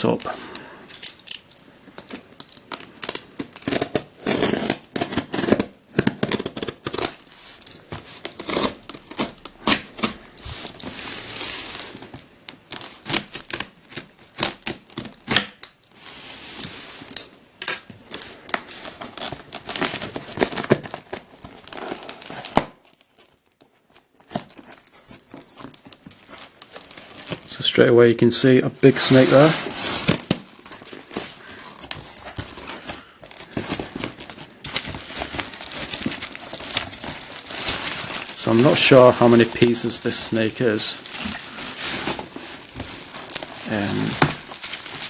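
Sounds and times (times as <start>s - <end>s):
packaging tearing and rustling: 0.9s - 27.7s, 28.8s - 45.0s.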